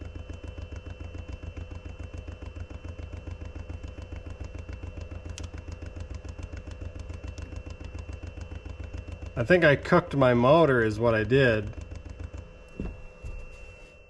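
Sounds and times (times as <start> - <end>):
faint whine: 0.0 - 14.0
small engine running: 0.0 - 14.0.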